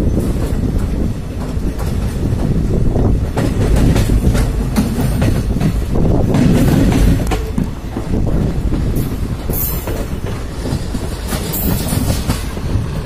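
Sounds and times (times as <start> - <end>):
train wheels rumbling on rails: 0.0 - 13.0
sharp clacks over rail joints: 0.2 - 13.0.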